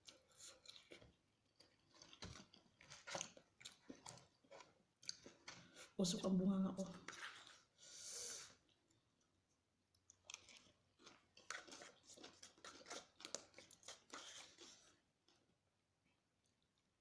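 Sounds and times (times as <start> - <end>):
chewing crispy fried chicken: 0.0 - 6.0, 6.9 - 17.0.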